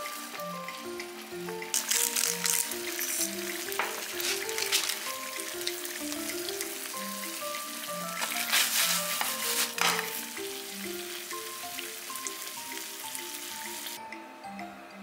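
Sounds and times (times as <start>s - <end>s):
light background music: 0.0s - 15.0s
chicken sizzling in a frying pan: 1.8s - 14.0s.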